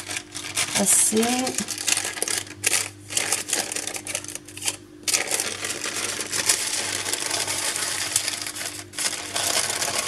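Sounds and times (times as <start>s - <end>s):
baking paper crinkling: 0.0s - 10.0s.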